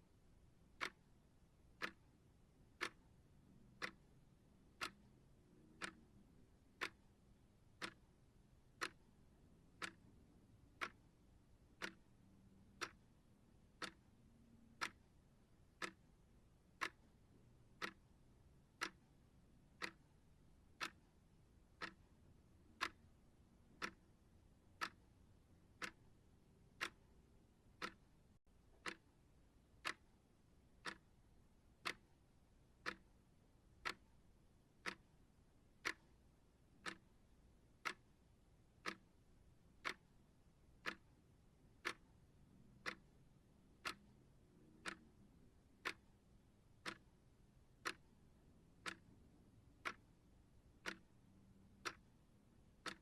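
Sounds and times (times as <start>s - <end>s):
clock ticking: 0.5s - 53.0s.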